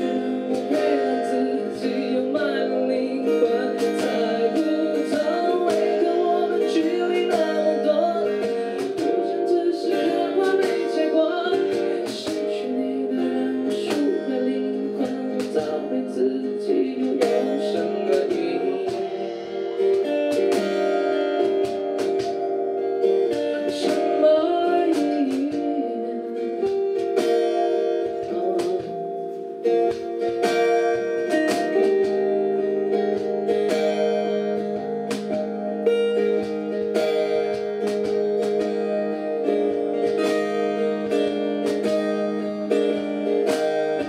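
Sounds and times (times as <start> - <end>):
acoustic guitars strummed: 0.0 - 44.0
cajon beat: 0.0 - 44.0.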